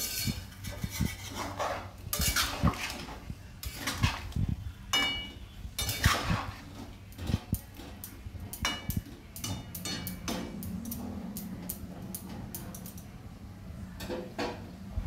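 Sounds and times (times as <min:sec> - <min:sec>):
metal spatula scraping metal pan: 0:00.0 - 0:12.9
low steady hum: 0:00.0 - 0:15.0.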